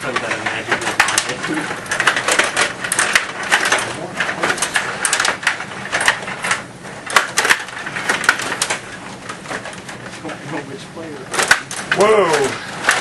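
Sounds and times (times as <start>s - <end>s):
table hockey clattering: 0.0s - 10.6s, 11.3s - 13.0s.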